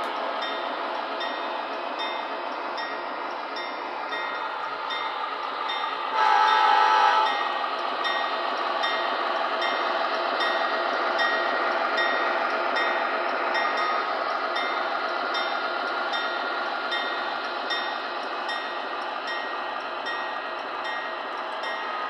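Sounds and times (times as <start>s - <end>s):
model train diesel engine sound: 0.0s - 22.0s
model train motors and wheels: 0.0s - 22.0s.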